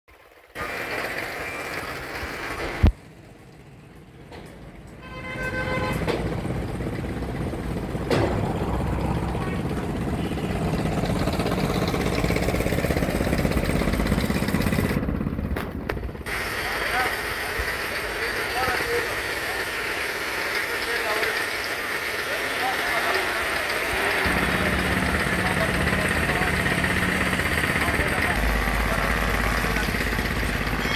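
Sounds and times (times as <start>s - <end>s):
vehicle engine rumbling: 0.1s - 30.9s.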